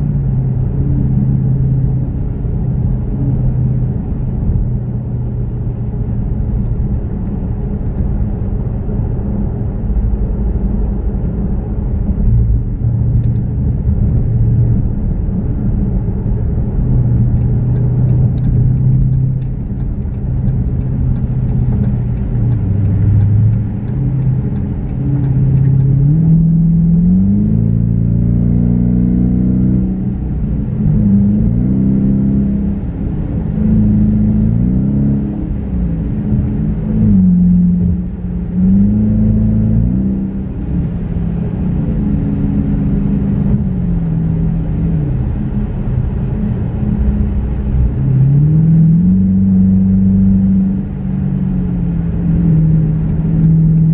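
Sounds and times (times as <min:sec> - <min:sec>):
car engine drone: 0:00.0 - 0:53.9
tyre and road rumble: 0:00.0 - 0:53.9.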